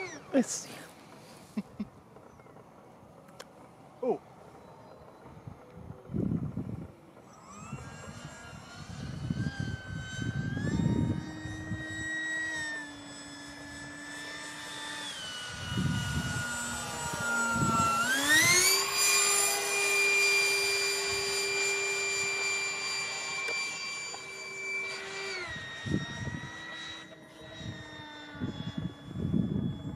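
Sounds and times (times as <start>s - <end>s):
model jet engine whining: 0.0s - 29.9s.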